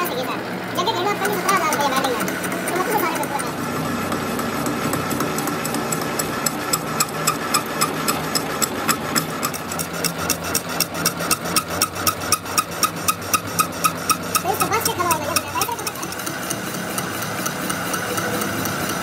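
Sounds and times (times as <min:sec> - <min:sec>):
lathe motor humming: 0:00.0 - 0:19.0
cutting tool ticking on metal: 0:01.1 - 0:19.0.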